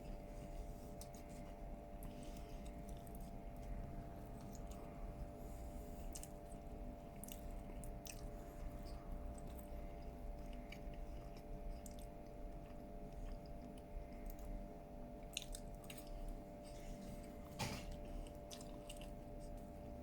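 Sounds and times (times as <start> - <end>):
faint steady hum: 0.0 - 20.0
person chewing crispy food: 0.0 - 20.0.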